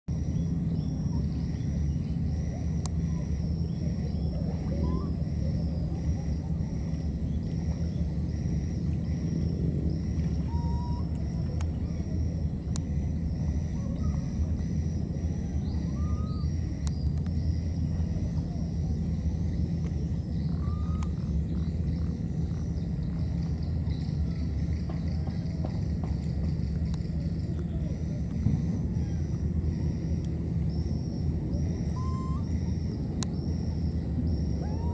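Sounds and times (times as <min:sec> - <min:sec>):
insects chirping: 0:00.1 - 0:34.9
low rumble: 0:00.1 - 0:34.9
faint rising and falling calls: 0:00.2 - 0:19.3, 0:20.0 - 0:23.6, 0:28.7 - 0:34.9.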